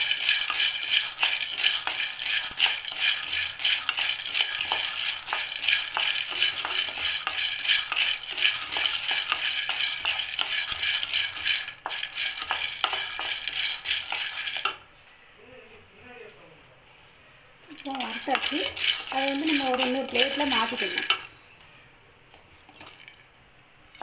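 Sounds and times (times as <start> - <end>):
grains rattling in a steel pan: 0.0 - 14.9, 17.6 - 21.3, 22.7 - 24.0.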